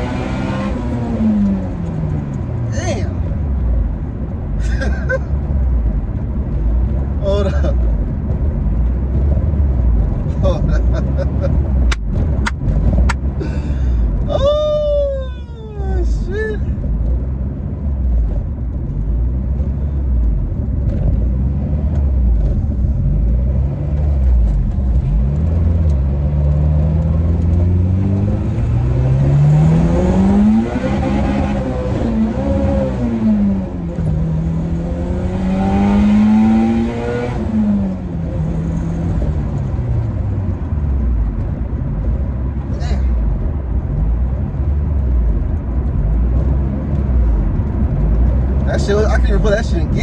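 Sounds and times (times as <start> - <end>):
car engine revving: 0.0 - 4.5, 5.5 - 14.3, 15.8 - 50.0.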